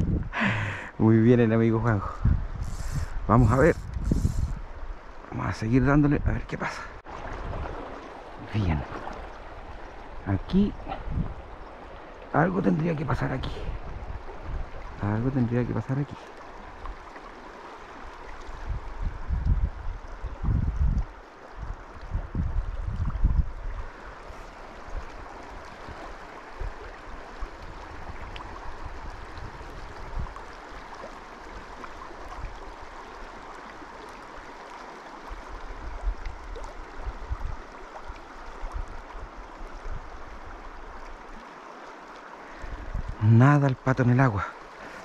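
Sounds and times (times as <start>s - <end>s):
river water flowing: 0.0s - 45.0s.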